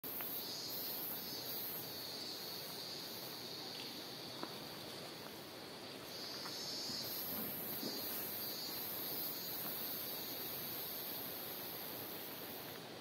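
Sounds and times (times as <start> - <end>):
cicadas buzzing: 0.0 - 13.0
shrill pulsing cicada song: 0.0 - 13.0.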